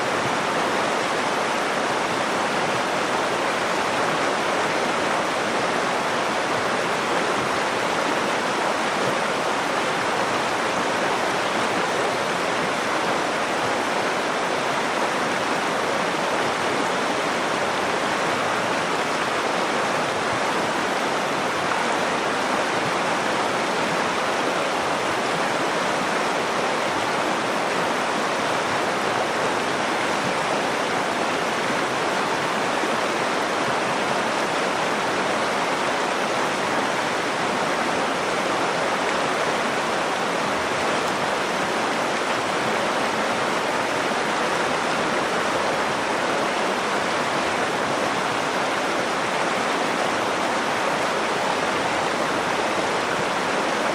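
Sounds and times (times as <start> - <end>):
river water rushing over stones: 0.0 - 53.9.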